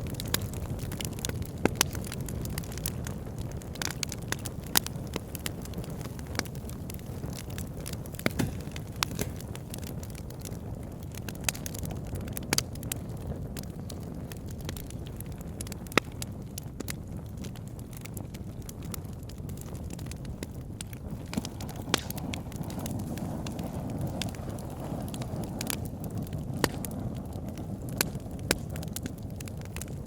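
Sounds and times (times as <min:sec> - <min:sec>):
fire rumbling and crackling: 0:00.0 - 0:30.0.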